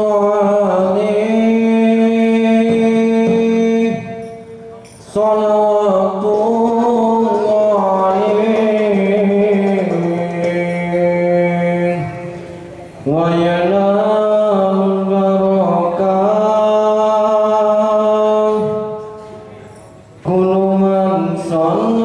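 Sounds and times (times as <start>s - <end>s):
man singing into a microphone: 0.0s - 19.4s, 20.2s - 22.0s.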